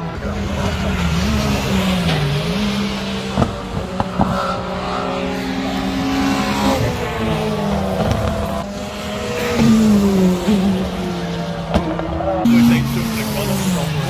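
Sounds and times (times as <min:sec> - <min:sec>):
rally car engines revving: 0:00.0 - 0:14.0.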